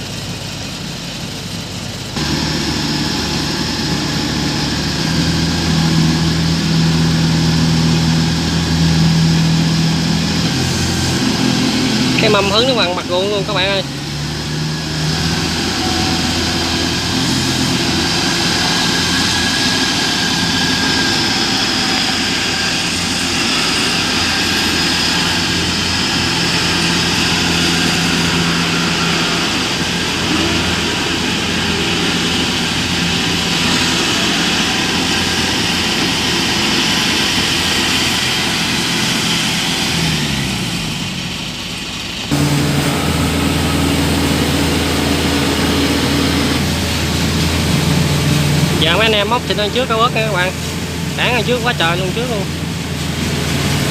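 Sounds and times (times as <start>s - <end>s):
diesel engine drone: 0.0s - 53.9s
engine whine: 0.0s - 53.9s.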